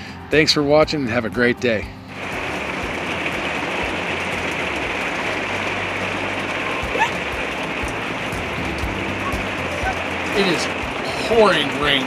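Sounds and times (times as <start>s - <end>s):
heavy rain on a roof: 2.0s - 12.0s.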